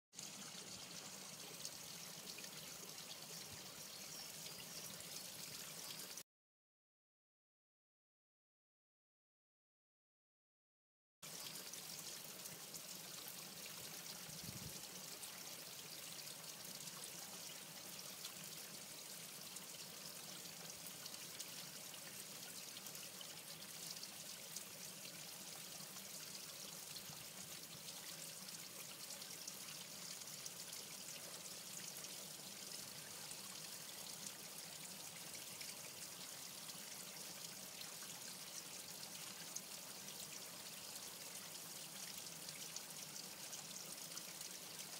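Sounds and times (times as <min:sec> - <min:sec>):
trickle of running water: 0:00.1 - 0:06.2, 0:11.2 - 0:44.9.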